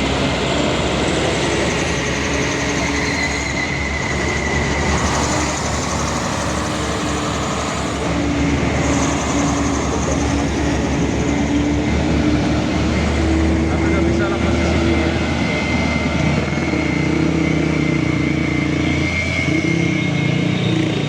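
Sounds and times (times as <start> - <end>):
diesel truck engine under load: 0.0 - 21.0
engine whine: 0.0 - 21.0.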